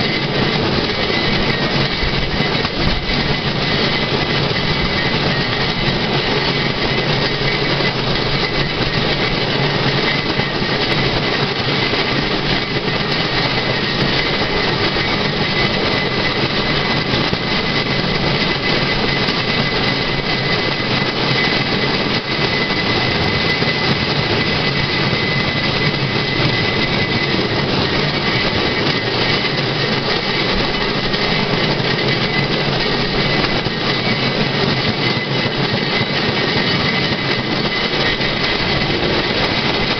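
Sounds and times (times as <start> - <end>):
steel wheels rolling on track: 0.0 - 39.9.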